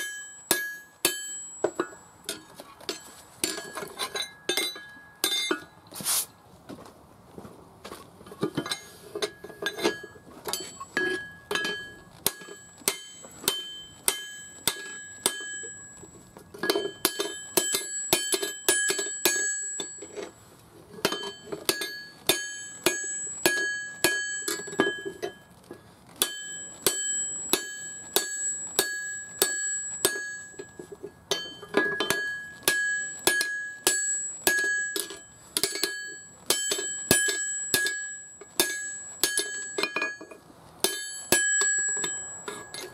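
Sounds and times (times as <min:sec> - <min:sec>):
hammer ringing on anvil: 0:00.0 - 0:05.7, 0:08.7 - 0:20.2, 0:21.0 - 0:25.4, 0:26.2 - 0:42.9.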